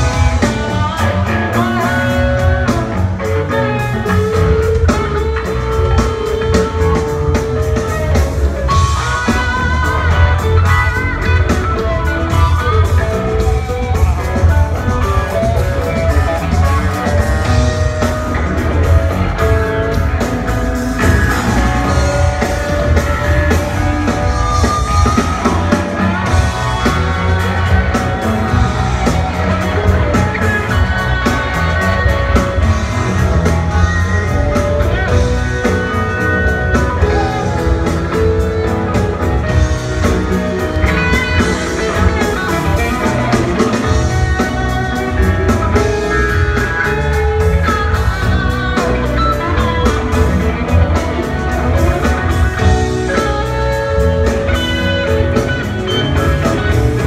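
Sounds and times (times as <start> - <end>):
live rock band playing funk: 0.0 - 57.0.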